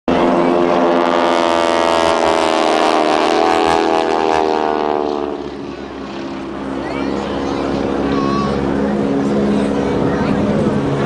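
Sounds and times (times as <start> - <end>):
propeller plane passing overhead: 0.1 - 11.0.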